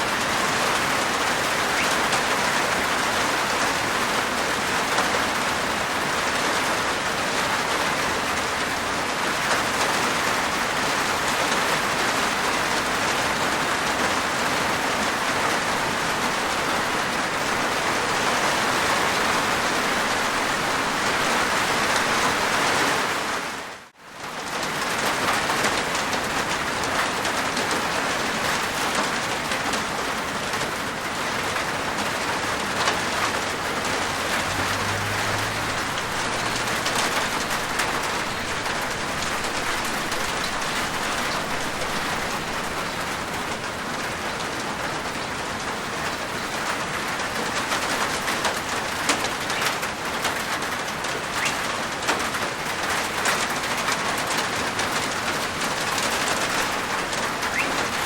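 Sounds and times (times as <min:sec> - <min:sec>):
rain on a rooftop: 0:00.0 - 0:58.0.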